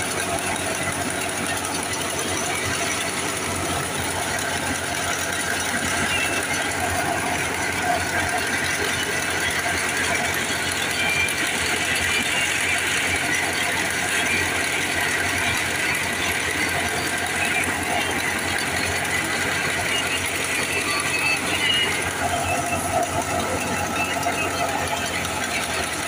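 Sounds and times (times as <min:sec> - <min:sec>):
thresher machine running: 0:00.0 - 0:26.0.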